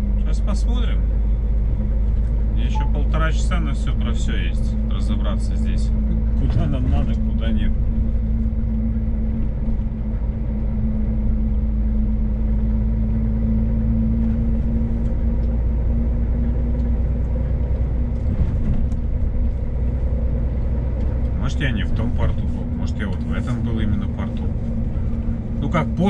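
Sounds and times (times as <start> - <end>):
constant low hum: 0.0 - 26.0
road rumble: 0.0 - 26.0
truck engine drone: 0.0 - 26.0.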